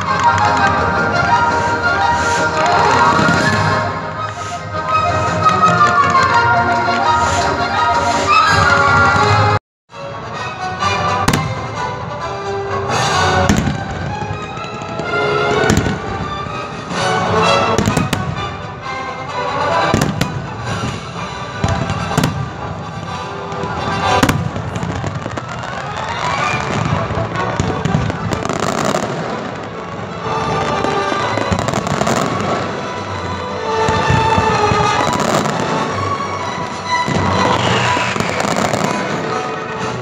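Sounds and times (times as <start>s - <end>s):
fireworks crackling: 0.0s - 9.6s, 12.8s - 40.0s
music: 0.0s - 40.0s.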